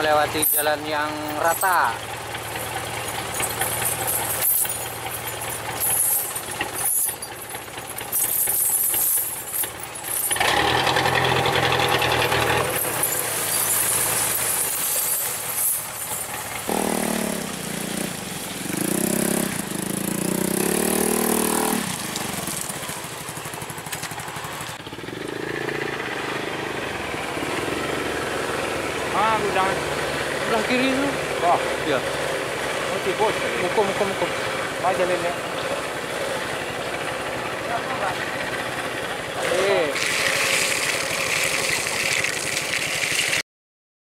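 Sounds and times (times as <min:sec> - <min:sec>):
vehicle engine running and revving: 0:00.0 - 0:42.0.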